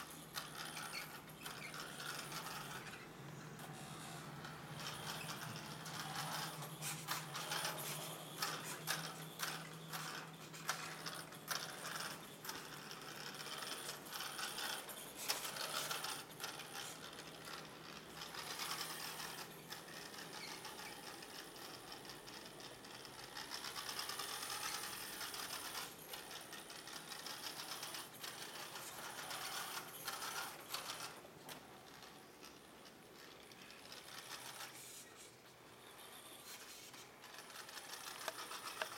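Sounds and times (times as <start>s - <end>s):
toy car gears whirring: 0.0s - 38.9s.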